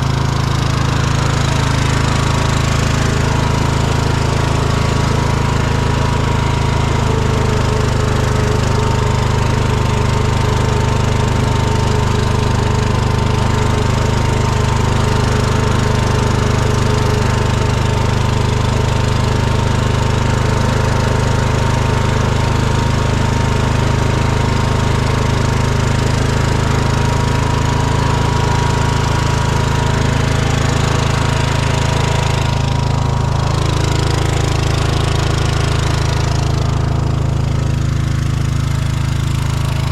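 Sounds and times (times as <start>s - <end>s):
small tractor engine running: 0.0s - 39.9s.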